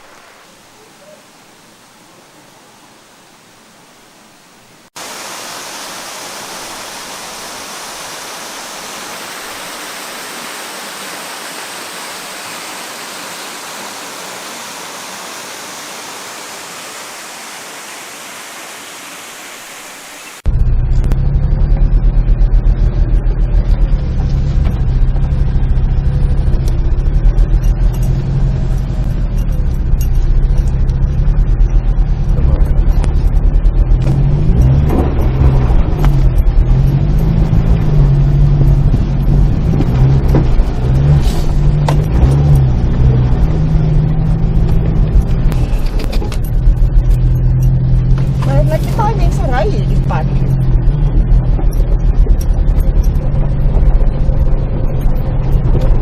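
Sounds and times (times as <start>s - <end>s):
vehicle engine revving: 6.7s - 56.0s.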